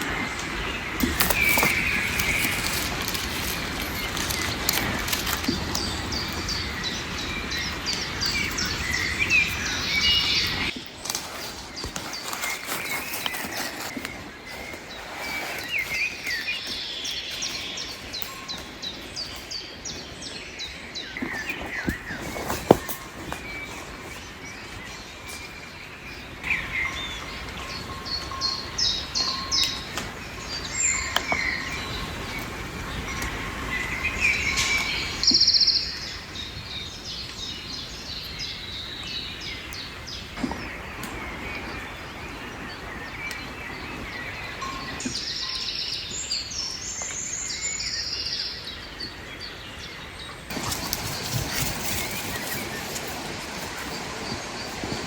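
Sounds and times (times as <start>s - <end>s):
outdoor background noise: 0.0s - 55.0s
songbirds singing and chirping: 0.0s - 55.0s.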